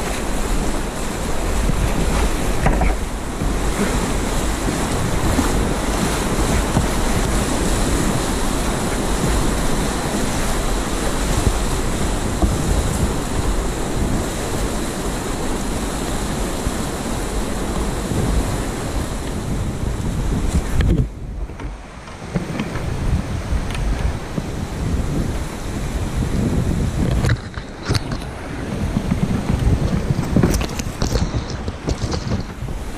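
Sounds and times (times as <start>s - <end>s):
whitewater rapids rushing: 0.0s - 32.9s
wind buffeting microphone: 0.0s - 32.9s.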